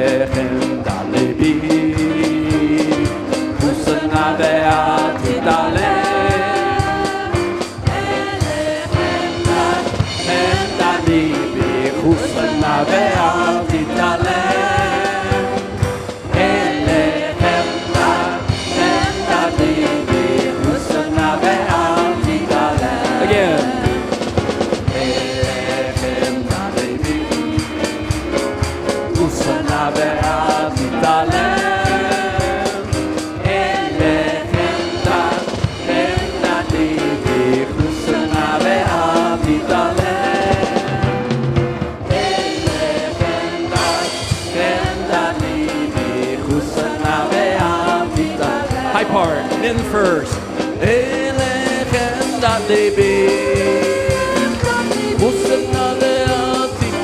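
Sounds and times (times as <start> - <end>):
band playing drums and instruments: 0.0 - 57.0
congregation singing: 0.0 - 57.0.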